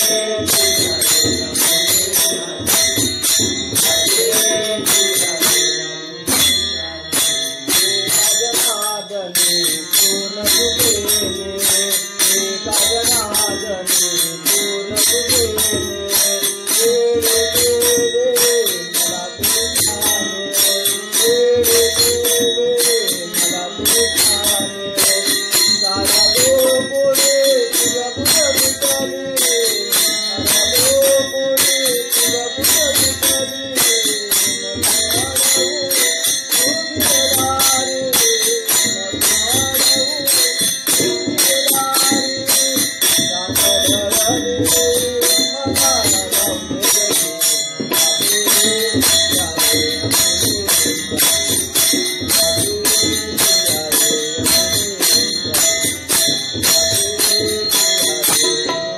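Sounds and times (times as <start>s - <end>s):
jingling percussion beat: 0.0s - 58.9s.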